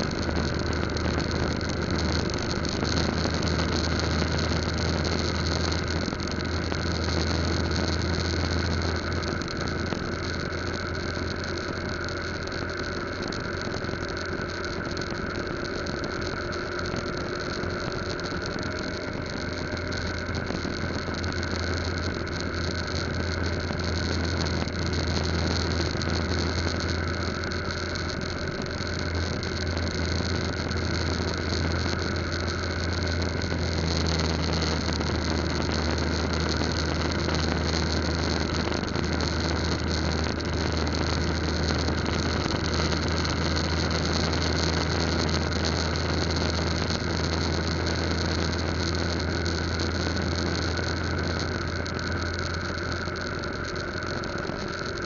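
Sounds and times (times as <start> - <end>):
motorcycle engine drone: 0.0 - 55.0.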